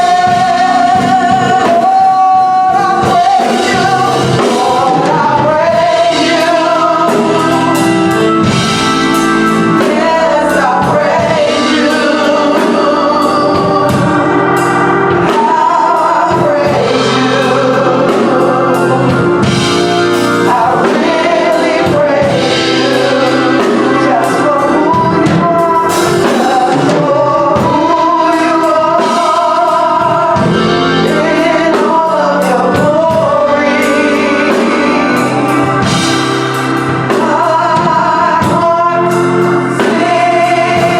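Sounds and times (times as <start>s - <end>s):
band accompaniment: 0.0s - 40.9s
gospel choir singing: 0.0s - 40.9s.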